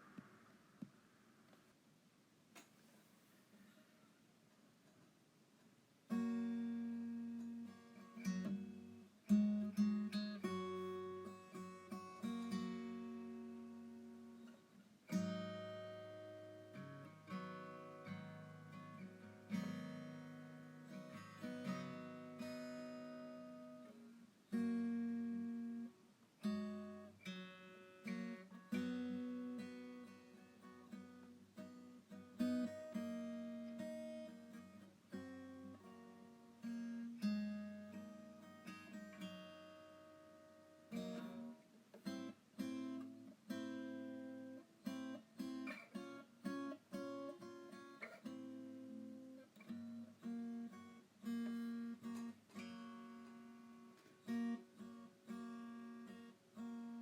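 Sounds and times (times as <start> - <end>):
acoustic guitar chords: 0.0 - 1.7, 6.1 - 57.0.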